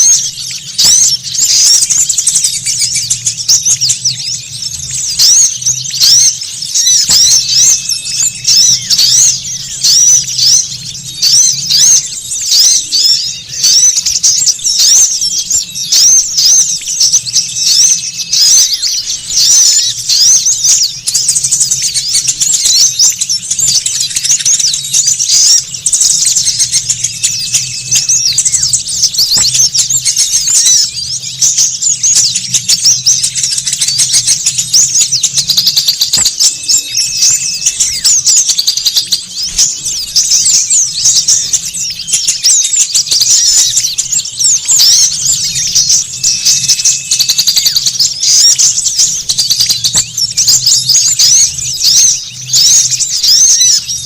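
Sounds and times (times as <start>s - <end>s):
small songbirds chattering: 0.0s - 54.0s.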